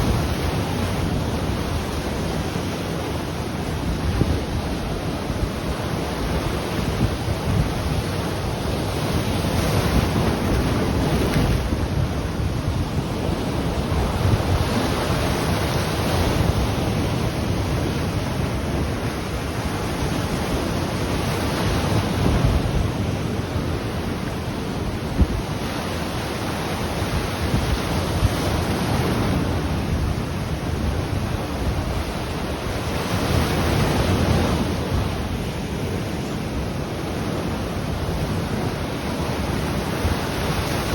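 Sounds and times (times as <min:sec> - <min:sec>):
ocean waves breaking on shore: 0:00.0 - 0:40.9
wind buffeting microphone: 0:00.0 - 0:40.9.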